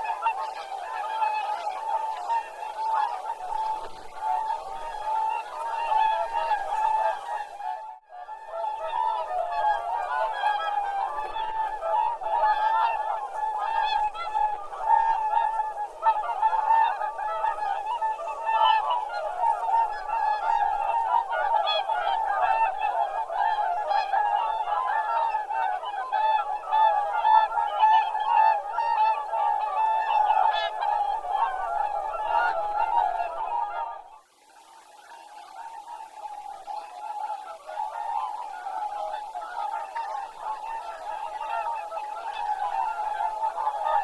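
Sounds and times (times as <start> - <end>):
flock of geese honking: 0.0 - 44.0.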